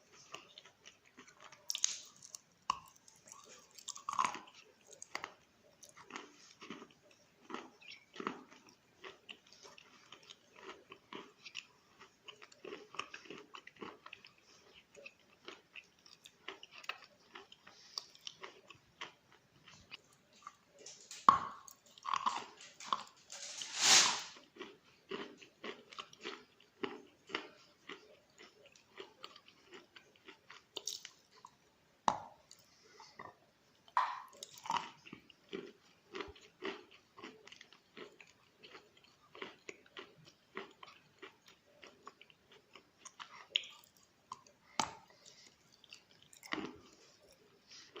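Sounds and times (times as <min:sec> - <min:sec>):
chewing wet chalk crunches: 0:00.1 - 0:48.0.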